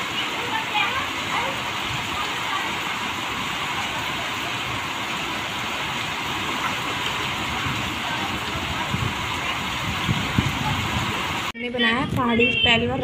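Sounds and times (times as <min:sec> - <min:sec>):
heavy rain hissing: 0:00.0 - 0:11.5.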